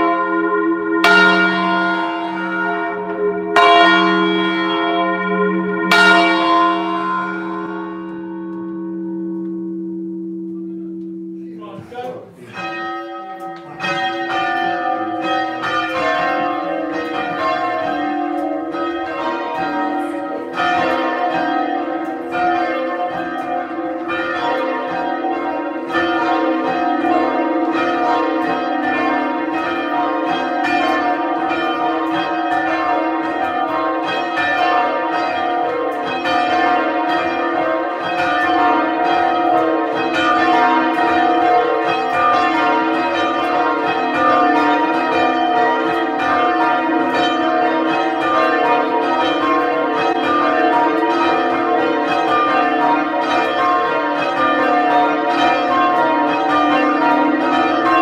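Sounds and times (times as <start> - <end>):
church bells ringing: 0.0 - 58.0.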